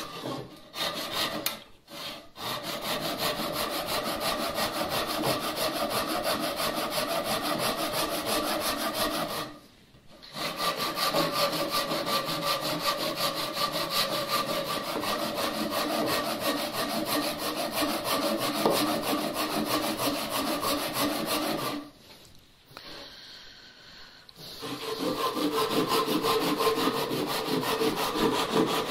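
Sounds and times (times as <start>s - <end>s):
hand saw cutting wood: 0.0s - 9.6s, 10.2s - 22.0s, 24.4s - 28.9s.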